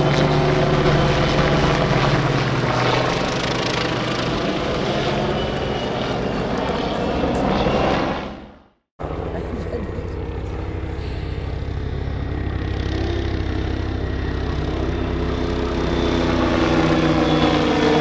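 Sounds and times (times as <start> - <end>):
helicopter rotor and turbine: 0.0 - 18.0
propeller airplane engine drone: 0.0 - 18.0.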